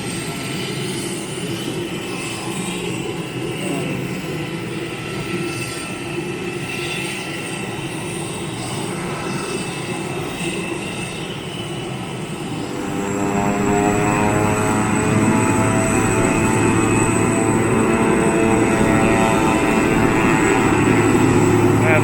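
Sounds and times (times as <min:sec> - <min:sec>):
propeller aircraft engine: 0:00.0 - 0:22.0.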